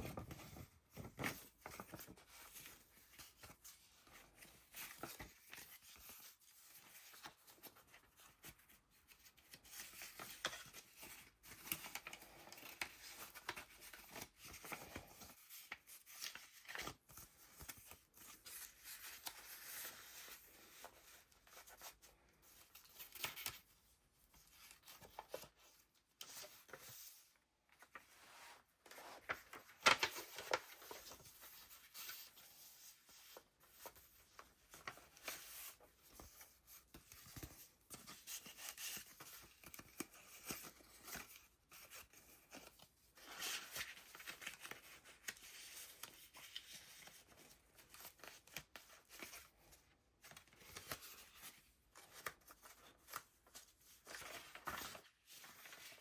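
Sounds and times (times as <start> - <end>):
paper pages rustling: 0.0 - 56.0.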